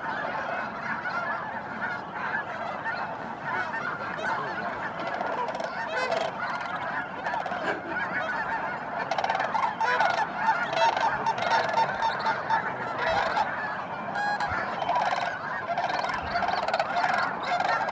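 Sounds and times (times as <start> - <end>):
geese honking: 0.0 - 17.9.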